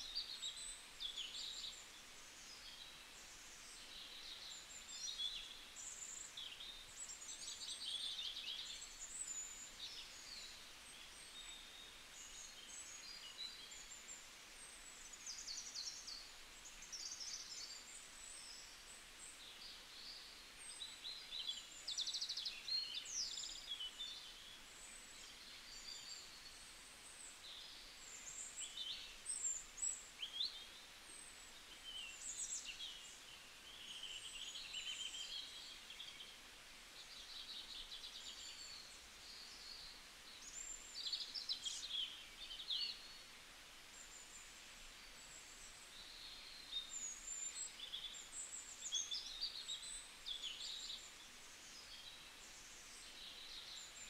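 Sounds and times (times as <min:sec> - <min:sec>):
soft background hiss: 0:00.0 - 0:54.0
wild birds singing: 0:00.0 - 0:54.0.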